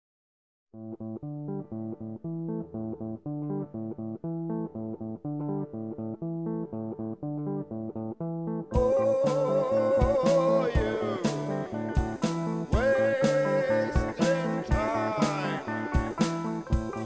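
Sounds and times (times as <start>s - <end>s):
instrumental background music: 0.9s - 17.0s.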